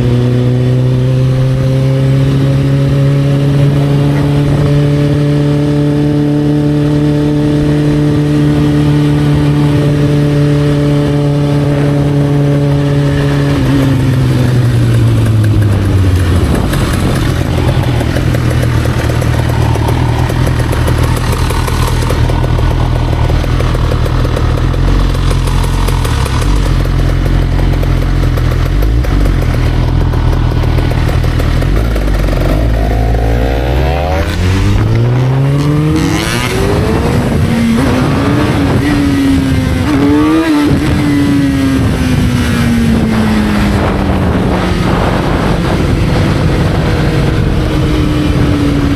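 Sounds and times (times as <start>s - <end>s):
motorcycle engine: 0.0s - 48.9s.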